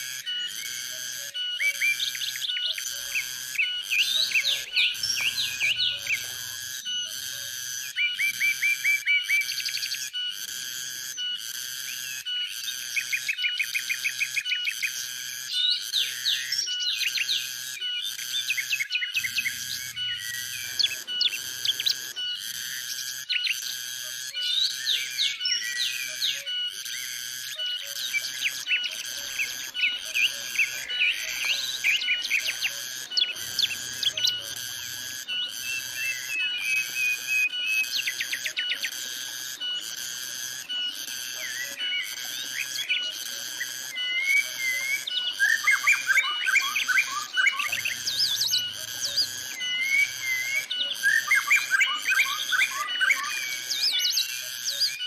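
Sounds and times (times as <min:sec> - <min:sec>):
birds chattering: 0:00.0 - 0:10.0, 0:11.2 - 0:55.0
birds chirping and whistling: 0:00.0 - 0:10.4, 0:11.0 - 0:55.0
cicadas buzzing: 0:00.0 - 0:55.0.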